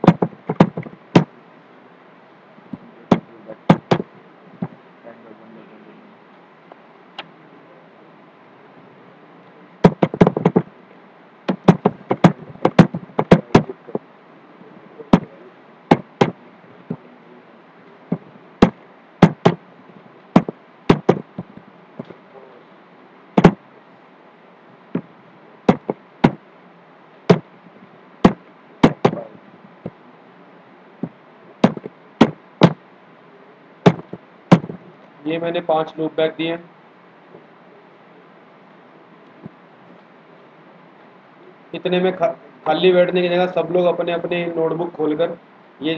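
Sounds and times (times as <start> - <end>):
faint steady hiss: 0.0 - 45.9.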